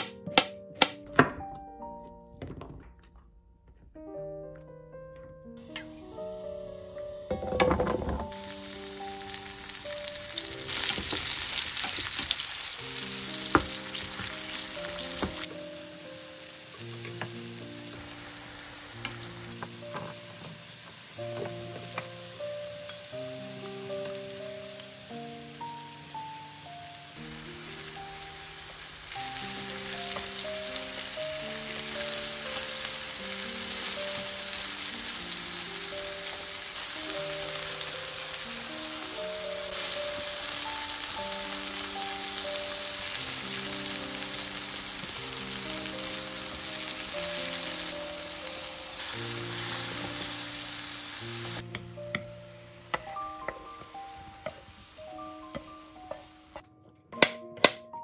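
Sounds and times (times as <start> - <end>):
vegetables sizzling in oil: 7.2 - 56.6.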